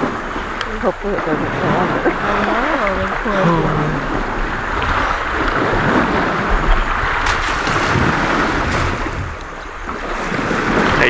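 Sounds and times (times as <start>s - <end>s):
river water rushing and sloshing: 0.0s - 11.0s
wind rumbling on microphone: 0.0s - 11.0s.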